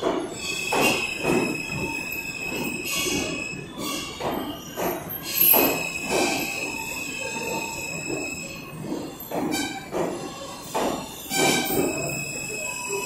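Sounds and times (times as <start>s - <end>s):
wheels clattering on rails: 0.0s - 13.0s
high-pitched wheel squeal: 0.3s - 13.0s.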